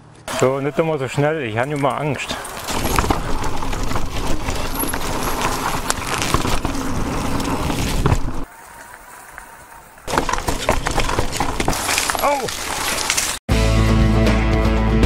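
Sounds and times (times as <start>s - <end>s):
tyres on dirt: 0.0s - 13.5s
bike rattling and knocking: 0.3s - 13.3s.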